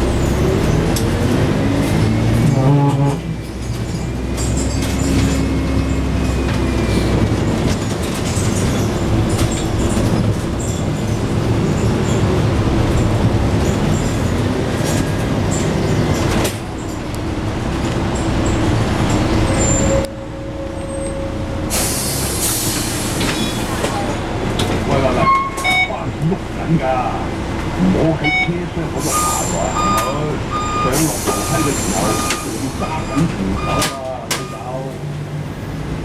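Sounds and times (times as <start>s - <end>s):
bus diesel engine running: 0.0s - 36.0s
road noise: 0.0s - 36.0s.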